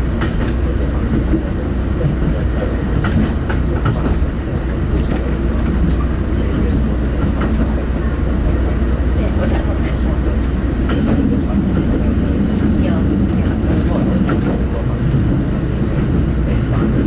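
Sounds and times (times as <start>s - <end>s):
railcar rumbling along track: 0.0s - 17.0s.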